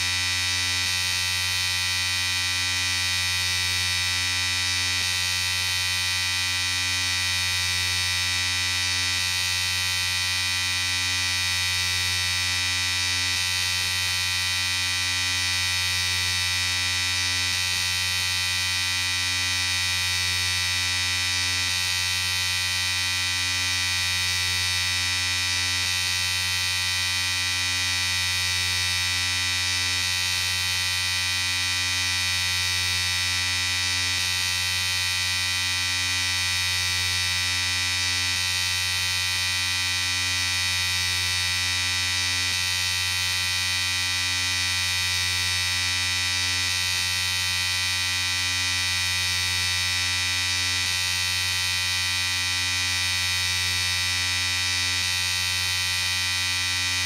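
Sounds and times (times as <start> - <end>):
electric shaver buzzing: 0.0 - 57.0.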